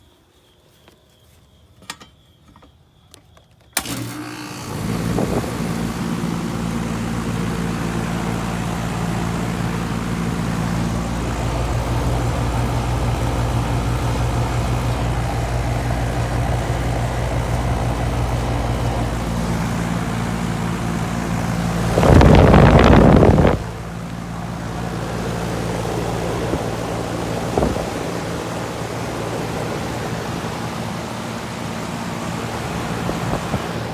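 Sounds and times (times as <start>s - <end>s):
air conditioner compressor and fan: 3.7s - 33.9s.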